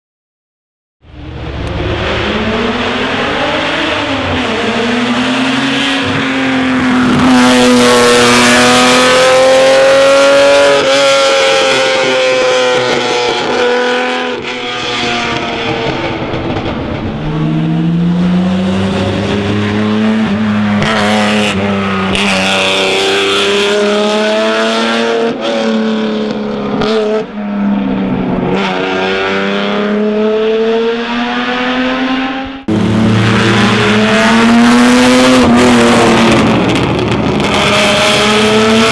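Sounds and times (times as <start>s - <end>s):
sports car engine revving: 1.2s - 38.9s.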